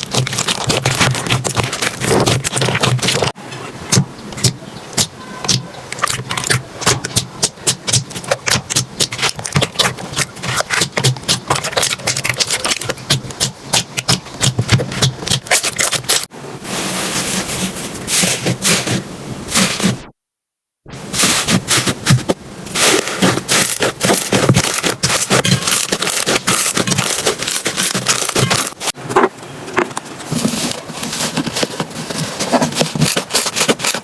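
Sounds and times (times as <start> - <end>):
slime squishing and crackling: 0.0 - 16.3, 21.2 - 29.2, 30.3 - 34.0.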